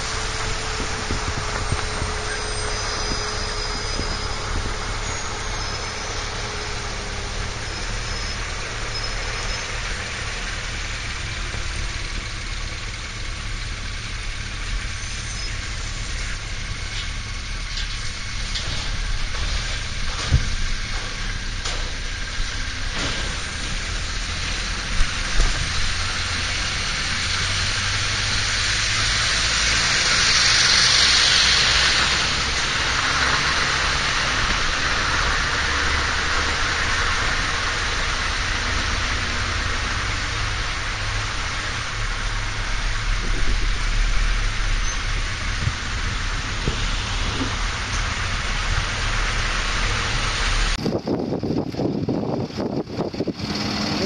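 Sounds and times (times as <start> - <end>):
motorcycle engine rumble: 0.0 - 30.3, 31.5 - 54.0
wind and road noise: 0.0 - 54.0.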